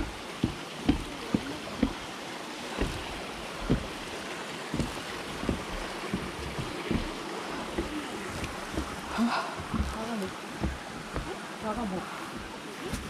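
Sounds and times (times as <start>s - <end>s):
footsteps on trail: 0.0s - 13.0s
steady rushing background noise: 0.0s - 13.0s.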